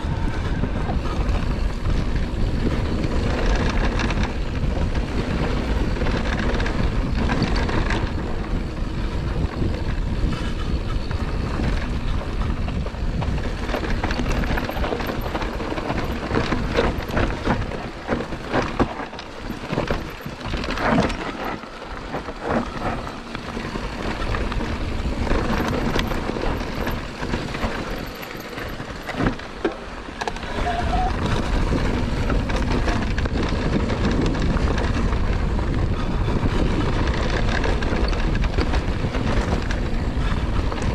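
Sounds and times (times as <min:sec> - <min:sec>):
bike rattling and knocking: 0:00.0 - 0:40.9
wind buffeting microphone: 0:00.0 - 0:40.9
tyres on dirt and rock: 0:00.3 - 0:40.9.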